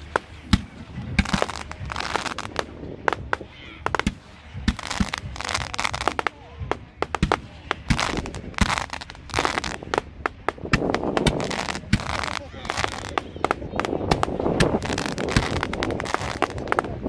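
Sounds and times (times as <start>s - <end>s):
firework shells bursting: 0.0s - 17.0s
hissing crackle: 0.0s - 17.0s.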